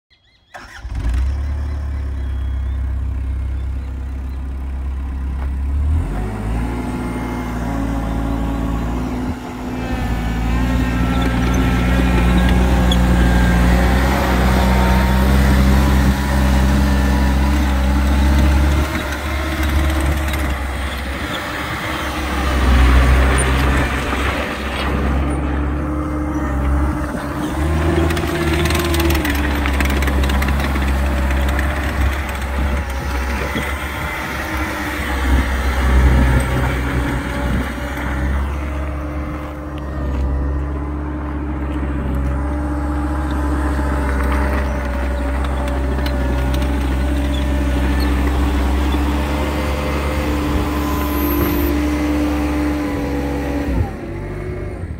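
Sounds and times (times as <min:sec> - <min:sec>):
diesel engine running: 0:00.4 - 0:54.9.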